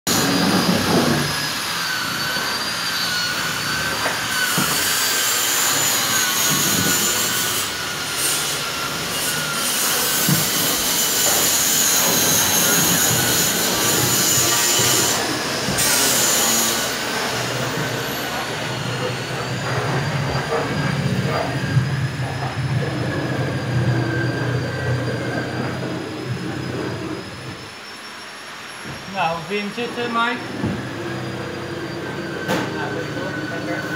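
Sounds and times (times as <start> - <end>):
workshop machinery whine: 0.1 - 33.9.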